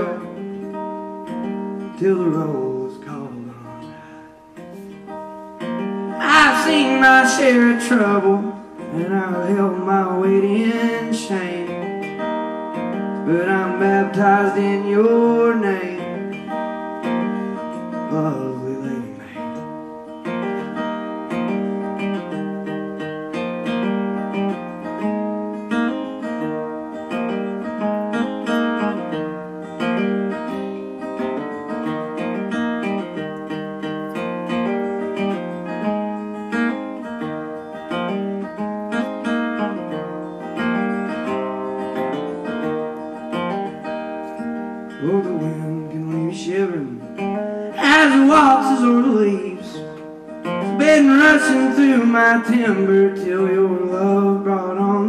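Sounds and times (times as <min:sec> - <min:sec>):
acoustic guitar strummed and picked: 0:00.0 - 0:55.0.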